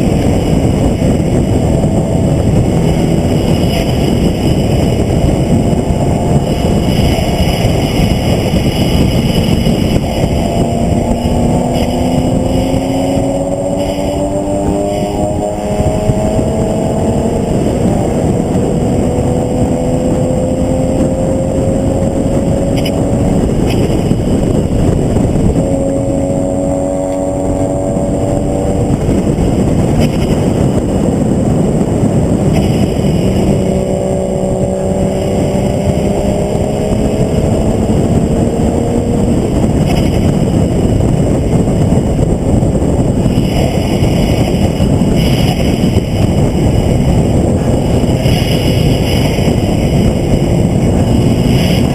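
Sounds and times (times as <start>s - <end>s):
car engine revving: 0.0s - 51.9s
wind and road noise: 0.0s - 51.9s.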